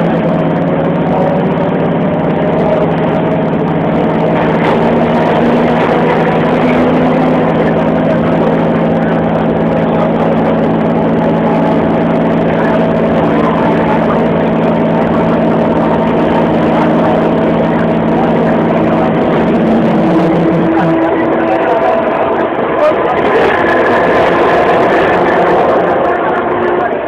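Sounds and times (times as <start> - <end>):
low hum: 0.0 - 27.0
train rumble from inside carriage: 0.0 - 27.0.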